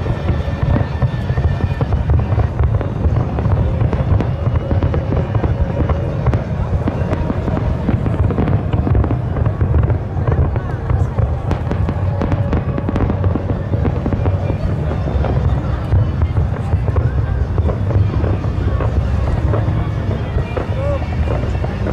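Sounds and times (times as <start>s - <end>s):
fireworks booming and crackling: 0.0s - 21.9s.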